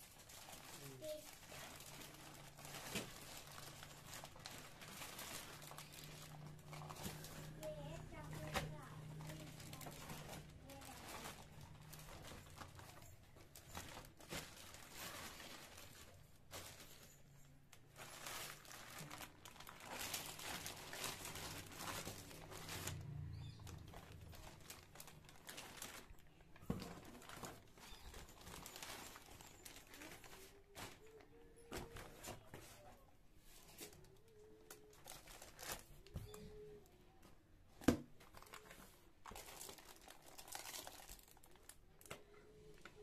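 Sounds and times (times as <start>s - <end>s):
plastic bags crinkling: 0.0s - 32.5s, 33.7s - 36.7s, 38.2s - 43.0s.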